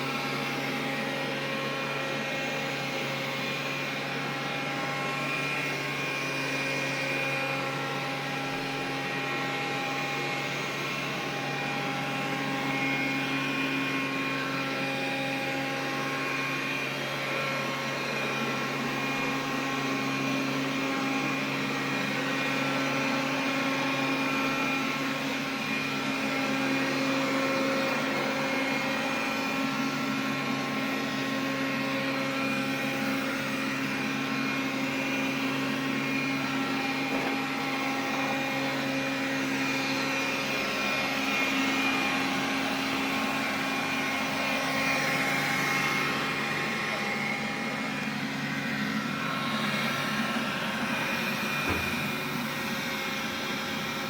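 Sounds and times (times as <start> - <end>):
vacuum cleaner motor hum: 0.0 - 54.0.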